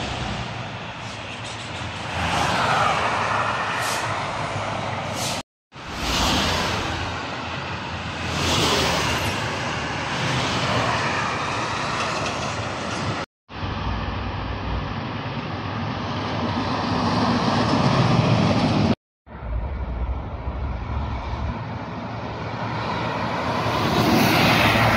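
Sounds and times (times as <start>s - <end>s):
trucks passing at highway speed: 0.0s - 24.9s.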